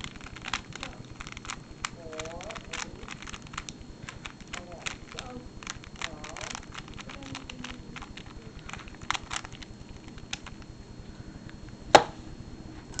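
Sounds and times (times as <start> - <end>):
puzzle cube clicking as turned: 0.0 - 10.7.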